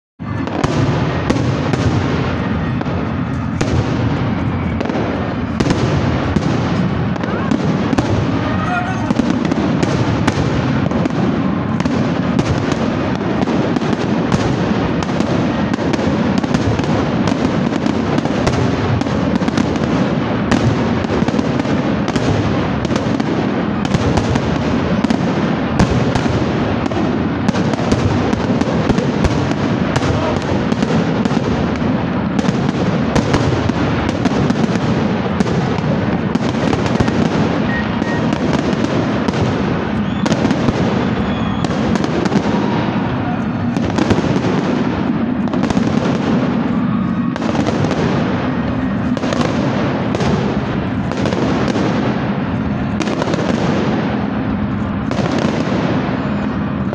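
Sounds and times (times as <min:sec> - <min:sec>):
fireworks bursting: 0:00.2 - 0:56.9.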